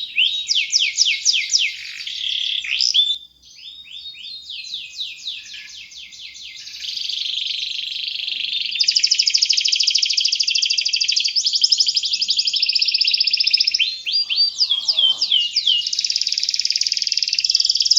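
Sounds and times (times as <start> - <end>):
canary singing fast trills: 0.0 - 17.9.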